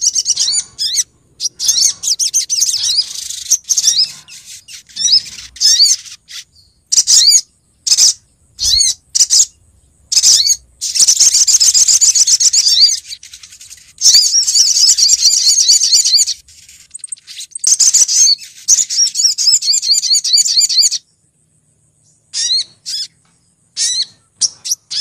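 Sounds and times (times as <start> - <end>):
short high bird chirps: 0.0 - 21.0
rapid high bird trilling: 0.0 - 21.1, 22.3 - 25.0.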